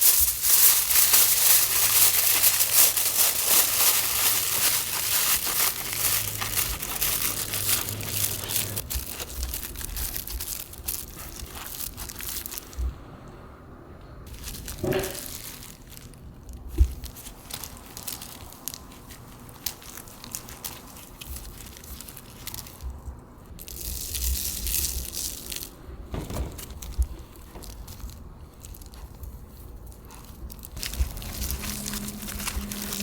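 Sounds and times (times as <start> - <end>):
aluminium foil crinkling: 0.0 - 12.9, 14.3 - 33.0.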